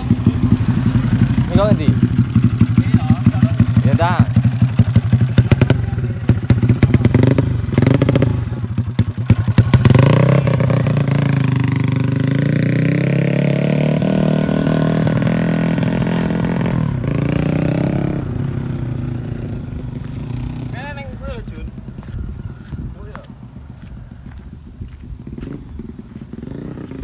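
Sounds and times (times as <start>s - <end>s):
motorcycle accelerating away: 0.0s - 27.0s
motorcycle engine revving: 0.0s - 27.0s.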